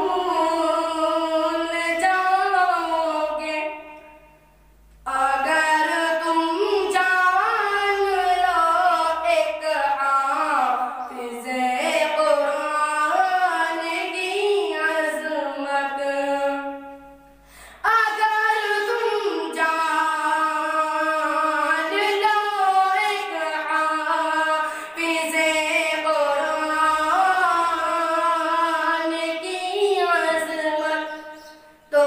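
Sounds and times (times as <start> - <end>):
boy singing into a microphone: 0.0 - 4.0, 5.0 - 32.0.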